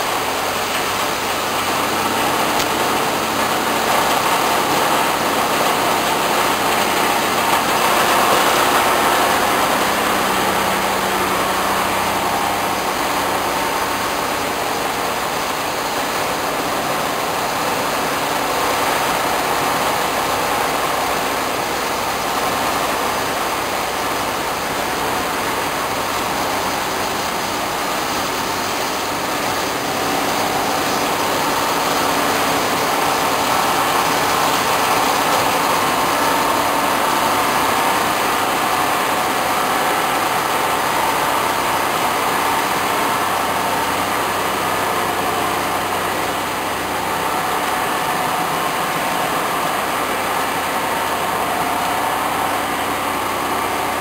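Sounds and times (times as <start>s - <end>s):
water churning in tanks: 0.0s - 54.0s.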